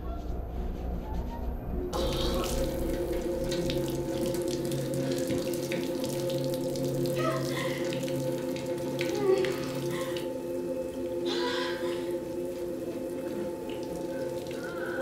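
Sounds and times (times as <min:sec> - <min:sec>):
steady hum: 0:00.0 - 0:15.0
water running from bath tap: 0:02.0 - 0:15.0.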